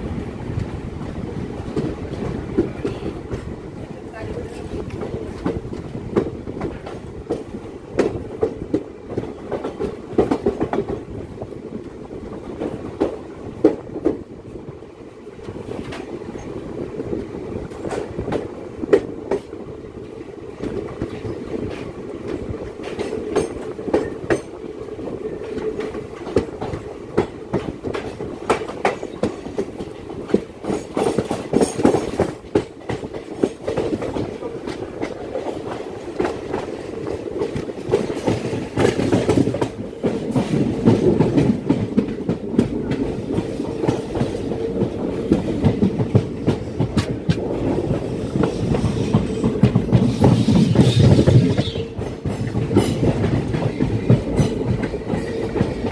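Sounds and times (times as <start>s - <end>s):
train rumble with clattering wheels: 0.0s - 55.9s.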